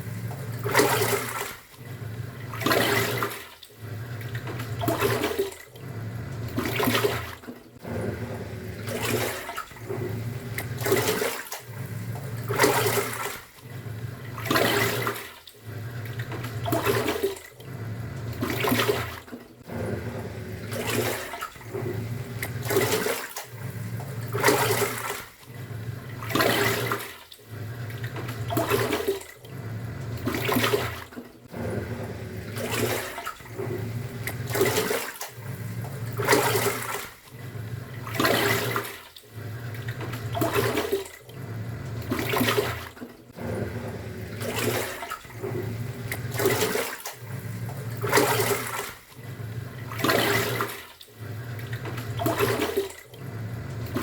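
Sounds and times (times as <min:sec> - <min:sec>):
washing machine motor hum: 0:00.0 - 0:54.0
water sloshing in drum: 0:00.0 - 0:54.0.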